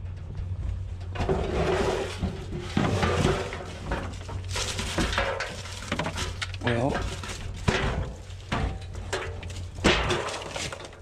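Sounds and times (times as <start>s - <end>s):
charcoal and leaves rattling: 1.0s - 11.0s.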